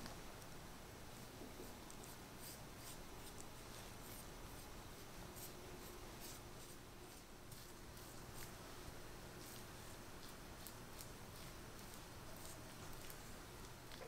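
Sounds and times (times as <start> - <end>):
pastry brush swishing on dough: 1.0 - 14.0.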